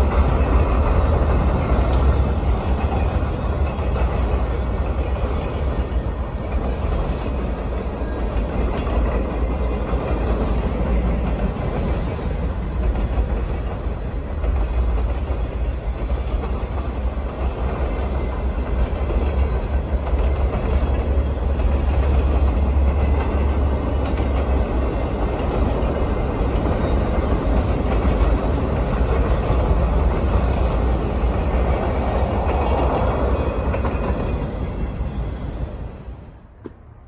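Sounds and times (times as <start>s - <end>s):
steel wheels clattering on rails: 0.0s - 35.9s
freight train rolling past: 0.0s - 37.0s.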